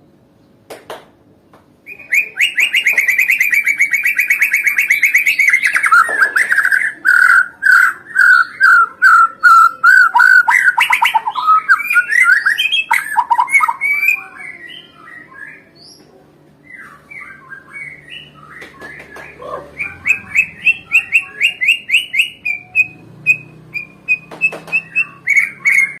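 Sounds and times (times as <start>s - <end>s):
bird singing whistled notes: 1.9s - 16.0s, 16.6s - 26.0s.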